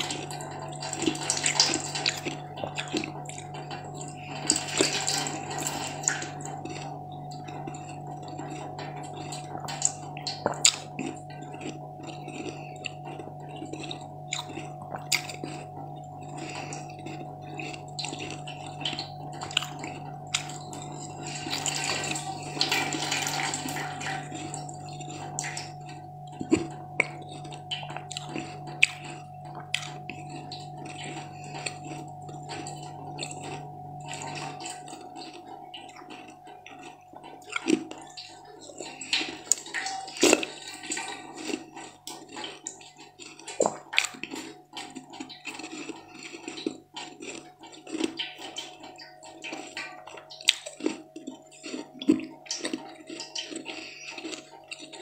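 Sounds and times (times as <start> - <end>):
steady low hum: 0.0 - 55.0
wet chewing mouth sounds: 0.0 - 55.0.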